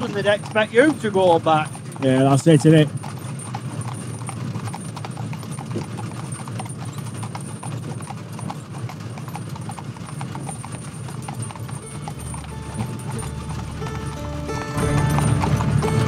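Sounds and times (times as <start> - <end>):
horse hooves on tarmac: 0.0 - 16.0.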